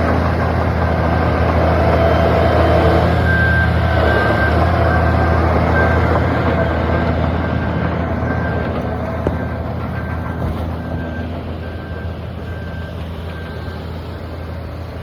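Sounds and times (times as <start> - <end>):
diesel earthmoving machine running: 0.0 - 15.0
reversing alarm beeping: 0.0 - 15.0.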